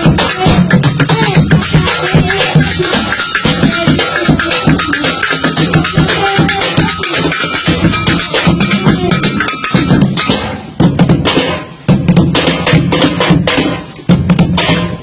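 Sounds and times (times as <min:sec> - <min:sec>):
drumming on buckets and cans: 0:00.0 - 0:15.0.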